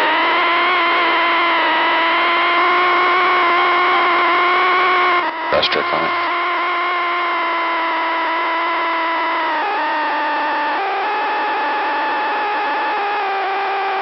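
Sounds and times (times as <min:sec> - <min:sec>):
radio static buzzing tone: 0:00.0 - 0:14.0.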